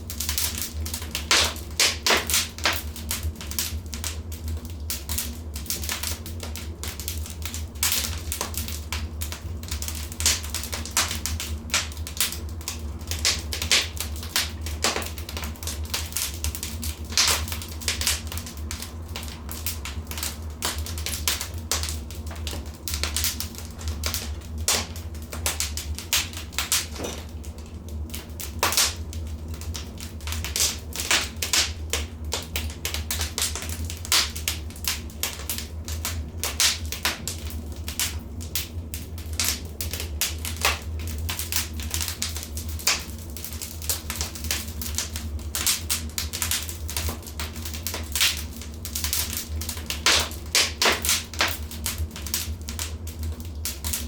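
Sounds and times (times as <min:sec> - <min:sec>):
steady low hum: 0:00.0 - 0:54.0
wood fire crackling and popping: 0:00.0 - 0:54.0.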